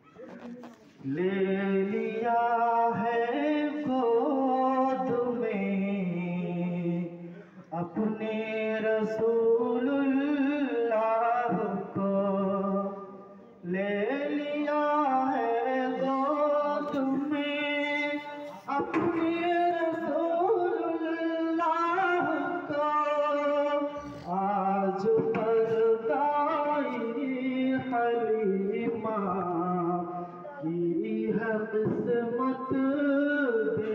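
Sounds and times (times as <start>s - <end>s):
person singing devotional song: 0.2s - 33.9s.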